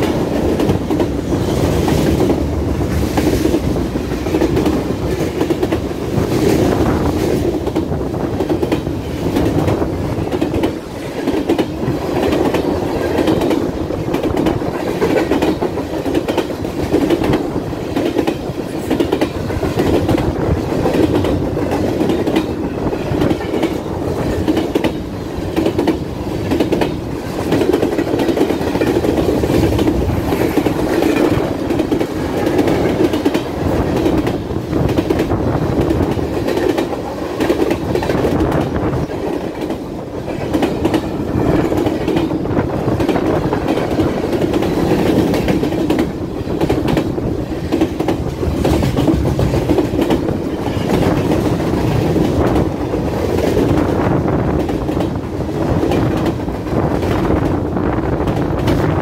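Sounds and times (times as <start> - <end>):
freight train rumbling past: 0.0 - 59.0
train wheels clickety-clack: 0.0 - 59.0.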